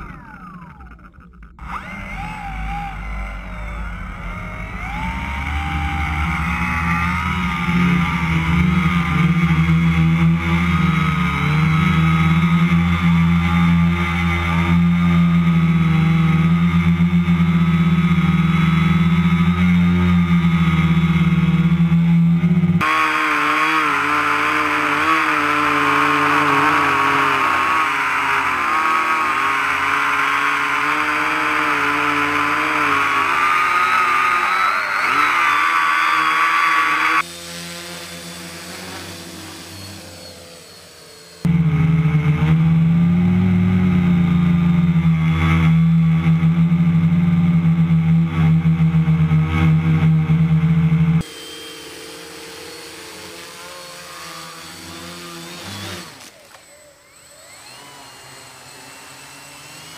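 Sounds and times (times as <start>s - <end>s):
multirotor drone motors humming: 0.0s - 59.9s.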